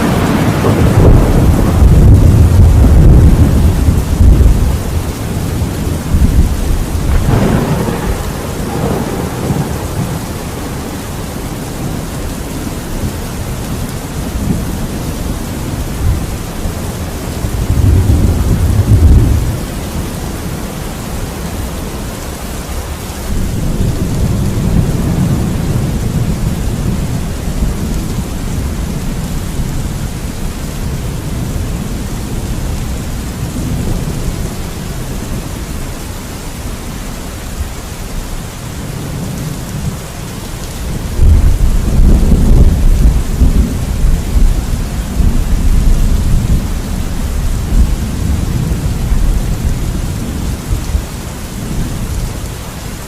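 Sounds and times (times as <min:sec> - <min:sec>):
rolling thunder: 0:00.0 - 0:21.7, 0:23.2 - 0:35.8, 0:40.6 - 0:52.2
steady rain: 0:00.0 - 0:53.0.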